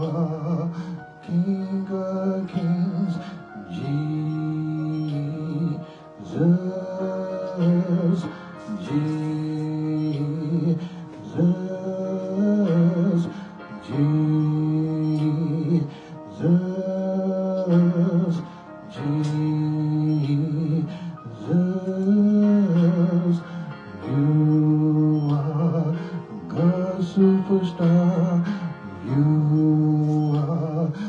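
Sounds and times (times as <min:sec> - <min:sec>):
slow gospel worship music: 0:00.0 - 0:31.0.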